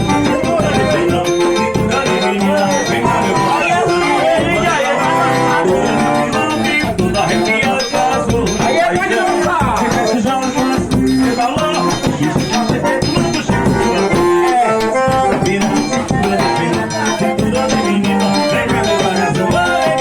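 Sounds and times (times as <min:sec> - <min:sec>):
accordion melody: 0:00.0 - 0:20.0
steady percussion rhythm: 0:00.0 - 0:20.0.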